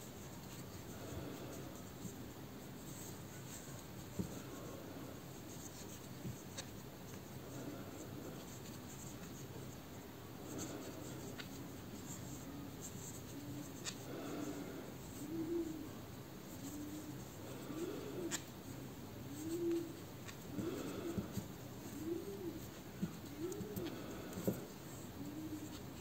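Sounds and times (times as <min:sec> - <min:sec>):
yarn rustling through stitches: 0:00.0 - 0:26.0.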